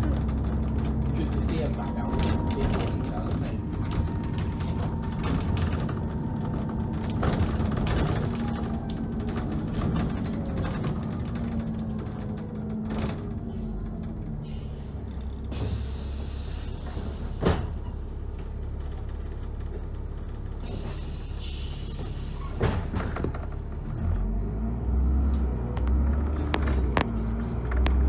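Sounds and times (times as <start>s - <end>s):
bus engine rumbling: 0.0s - 28.0s.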